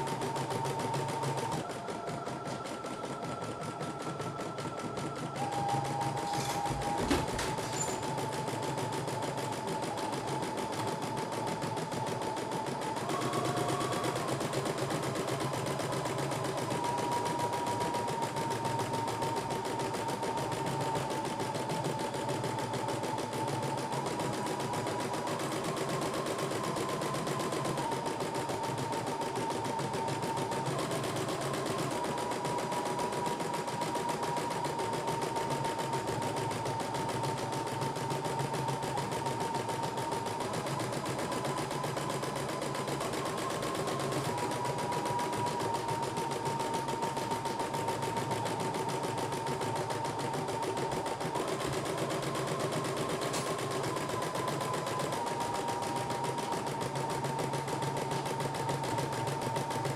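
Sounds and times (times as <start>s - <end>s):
motor whine: 0.0s - 59.9s.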